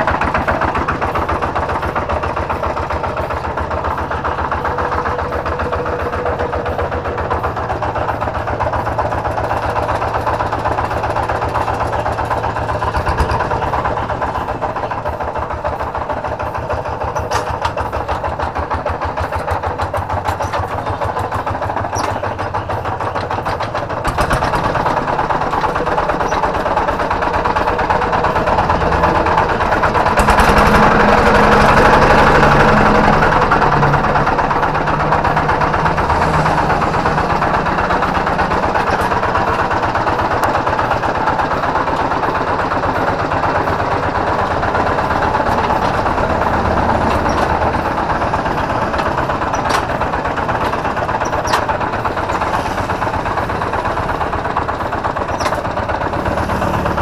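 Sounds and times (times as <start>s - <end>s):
rough diesel engine running: 0.0s - 57.0s.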